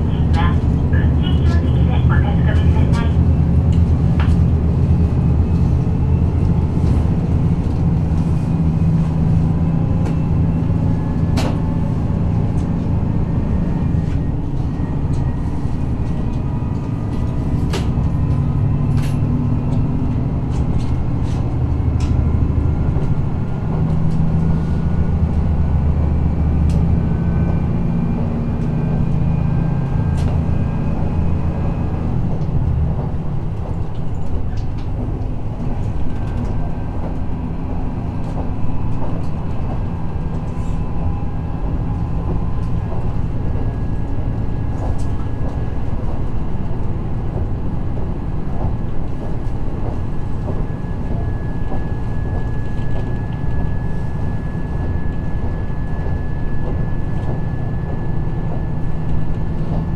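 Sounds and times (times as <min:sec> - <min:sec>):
diesel railcar engine drone: 0:00.0 - 0:59.9.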